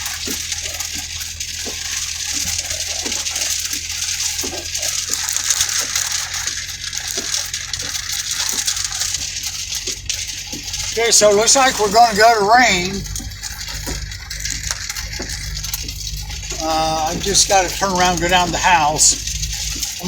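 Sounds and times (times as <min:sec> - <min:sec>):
heavy rain on vehicle roof: 0:00.0 - 0:20.0
raindrops tapping: 0:00.0 - 0:20.0.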